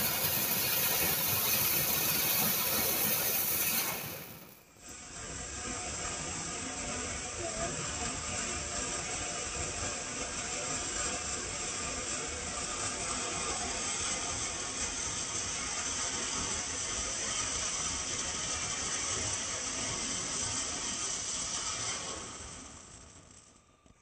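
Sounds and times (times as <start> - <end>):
firework fountain hissing and crackling: 0.0 - 24.0.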